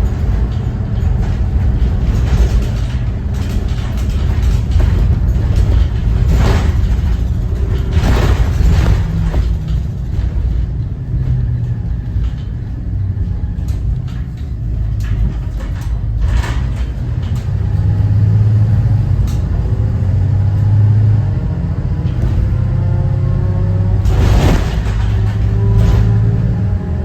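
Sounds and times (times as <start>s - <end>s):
bus body clicks and rattles: 0.0s - 27.0s
diesel bus engine drone: 0.0s - 27.0s.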